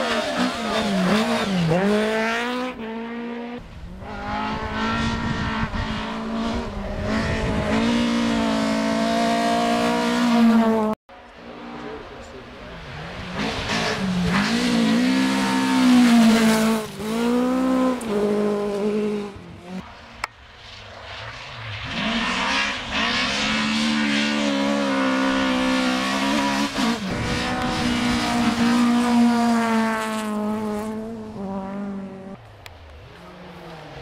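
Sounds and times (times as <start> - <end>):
rally car engine revving: 0.0 - 20.2, 21.2 - 34.0.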